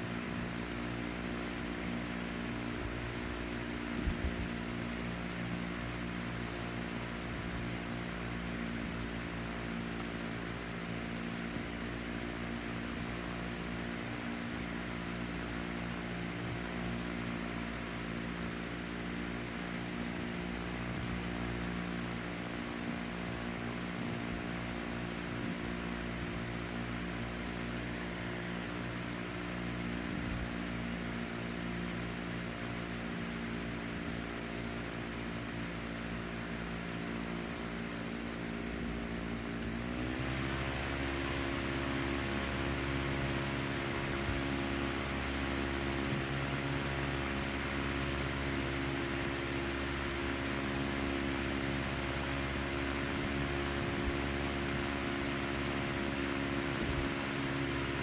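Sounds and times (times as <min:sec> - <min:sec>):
table fan running: 0:00.0 - 0:58.0.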